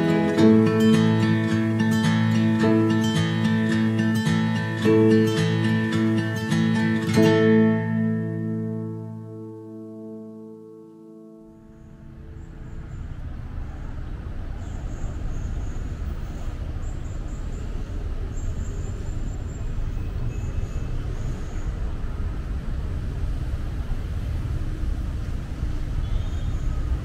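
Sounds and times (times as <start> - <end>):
busy road traffic rumble: 0.0 - 10.6, 11.4 - 27.0.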